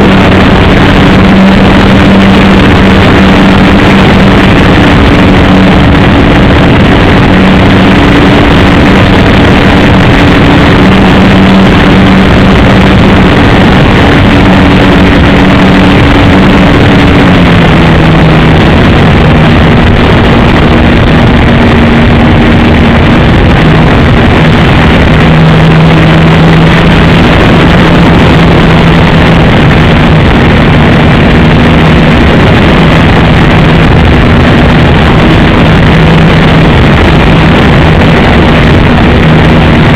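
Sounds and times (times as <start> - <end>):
model airplane engine buzzing: 0.0 - 39.9.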